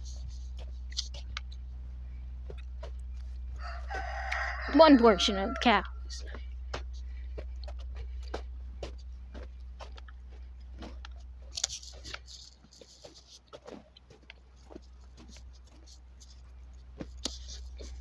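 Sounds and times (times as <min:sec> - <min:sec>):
small crunches and clicks: 0:00.0 - 0:01.7, 0:02.4 - 0:04.7, 0:05.6 - 0:18.0
low steady rumble: 0:00.0 - 0:18.0.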